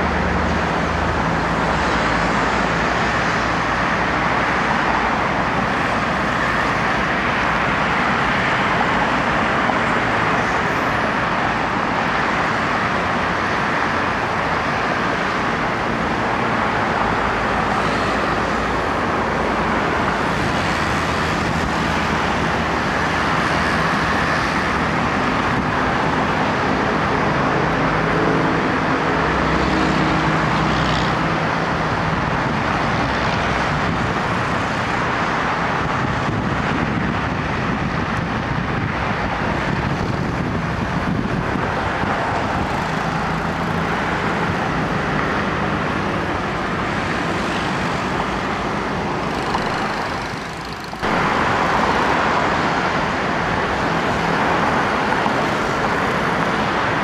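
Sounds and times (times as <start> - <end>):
engine noise: 0.0 - 57.0.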